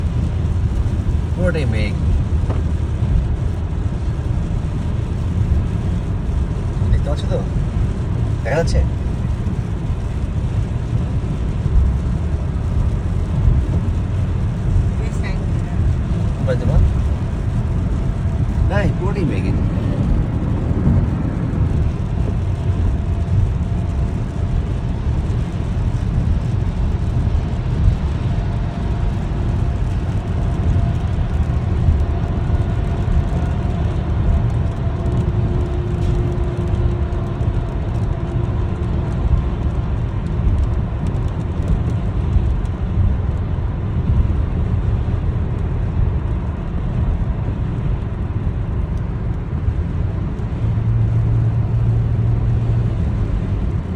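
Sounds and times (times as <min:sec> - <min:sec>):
low rumble: 0:00.0 - 0:53.9.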